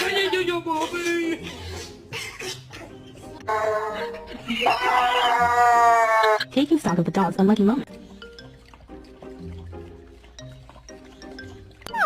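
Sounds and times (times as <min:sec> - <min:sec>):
soft gentle background music: 0:00.0 - 0:12.0.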